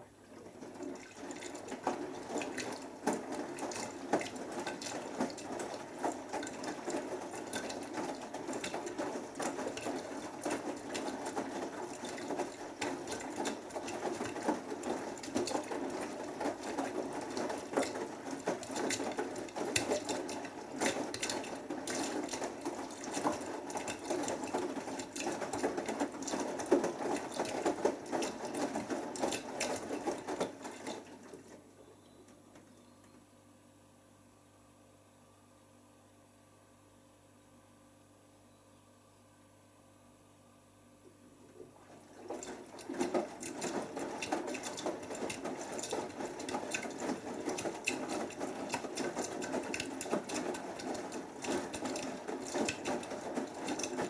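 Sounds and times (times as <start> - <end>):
washing machine motor running: 0.0 - 31.8, 41.5 - 54.0
water splashing and sloshing: 0.2 - 31.8, 41.5 - 54.0
washing machine drum tumbling: 0.4 - 31.6, 41.7 - 54.0.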